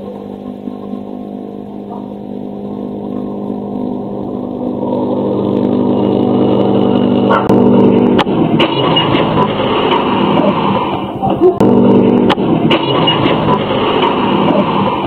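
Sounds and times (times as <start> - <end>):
vehicle engine running: 0.0 - 15.0
sudden sharp hit: 2.0 - 15.0.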